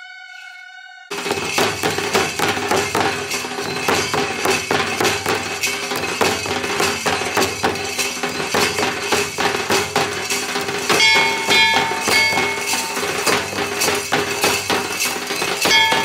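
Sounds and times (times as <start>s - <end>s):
drum ensemble playing dance rhythm: 1.1s - 16.0s.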